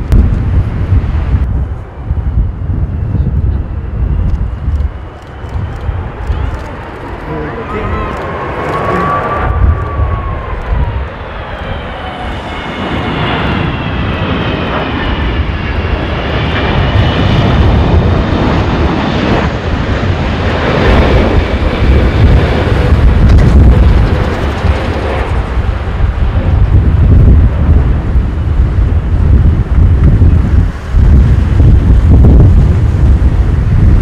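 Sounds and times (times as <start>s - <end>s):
jet engine whine: 0.0s - 34.0s
low rumble: 0.0s - 34.0s.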